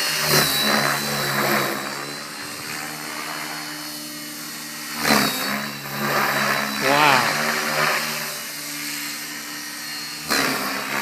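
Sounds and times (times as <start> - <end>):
rc helicopter whining hum: 0.0 - 11.0.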